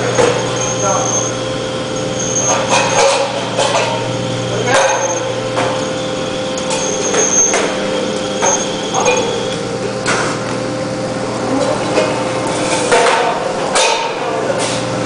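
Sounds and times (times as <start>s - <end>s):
machine humming: 0.0s - 13.8s.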